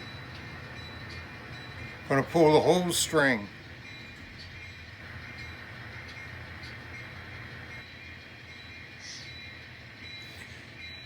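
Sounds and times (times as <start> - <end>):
model locomotive humming: 0.0 - 11.0.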